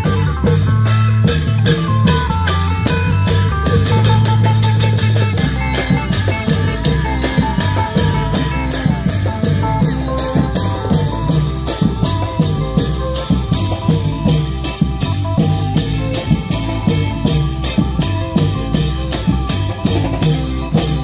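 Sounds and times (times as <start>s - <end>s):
amplified plucked-string melody: 0.0s - 21.0s
heavy bass line: 0.0s - 21.0s.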